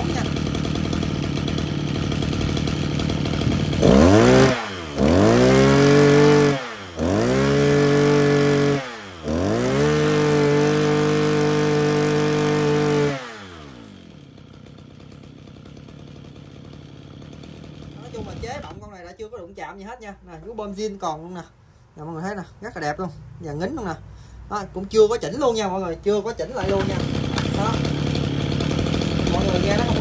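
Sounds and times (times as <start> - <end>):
brush cutter engine idling and revving: 0.0 - 19.2, 24.8 - 30.0.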